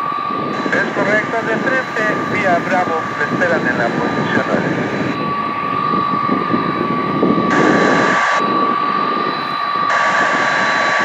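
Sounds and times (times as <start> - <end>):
aircraft turbine whine: 0.0 - 11.0
rushing jet noise: 0.0 - 11.0.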